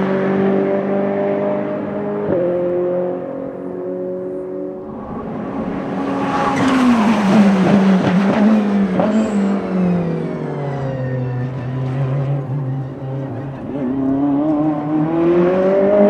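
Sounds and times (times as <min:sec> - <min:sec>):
race car engine passing: 0:00.0 - 0:16.0.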